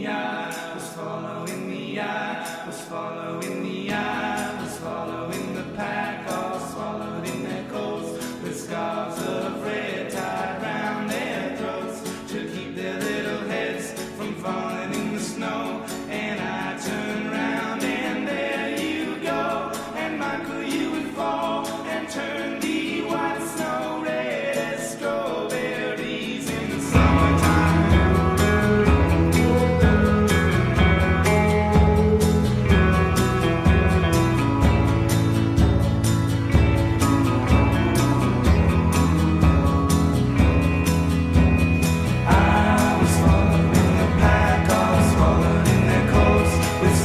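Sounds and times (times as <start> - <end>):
song with choir-like vocals: 0.0 - 47.0.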